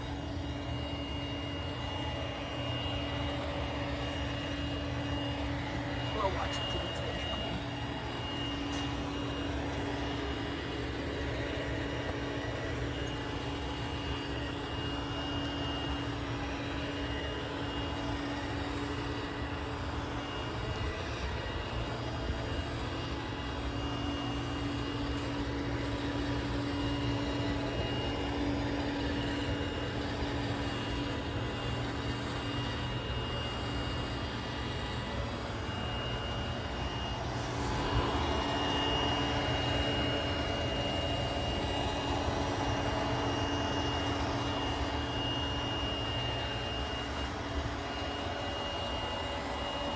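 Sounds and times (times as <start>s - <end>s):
robot vacuum running: 0.0s - 49.9s.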